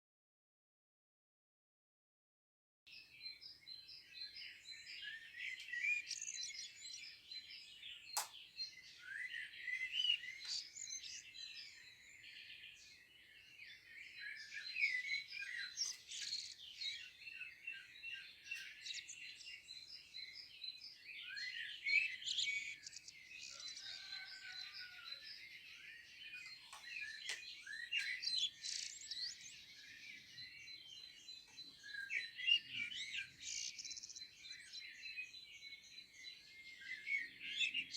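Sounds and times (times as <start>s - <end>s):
songbirds chirping and trilling: 2.9s - 37.9s.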